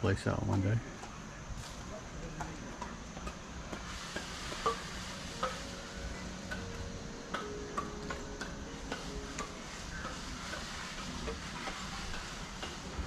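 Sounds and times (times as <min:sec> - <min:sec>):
crackling hiss: 0:00.0 - 0:13.0
footsteps on outdoor path: 0:00.6 - 0:13.0.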